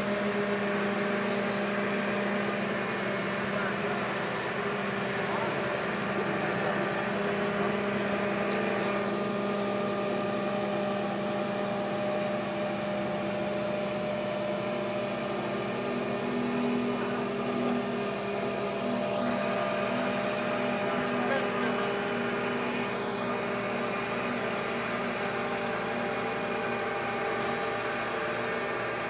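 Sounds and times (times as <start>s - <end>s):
crane diesel engine running: 0.0s - 29.0s.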